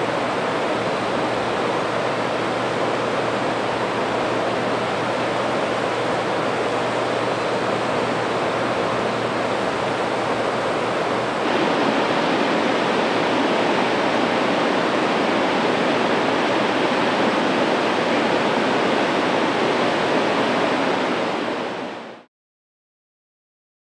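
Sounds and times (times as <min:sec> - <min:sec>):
waterfall roaring: 0:00.0 - 0:22.3.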